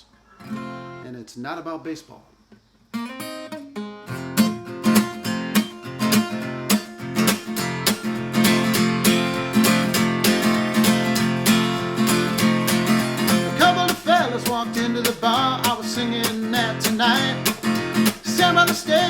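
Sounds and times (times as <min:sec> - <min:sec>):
acoustic guitar strumming: 0:00.3 - 0:01.0, 0:02.9 - 0:19.0.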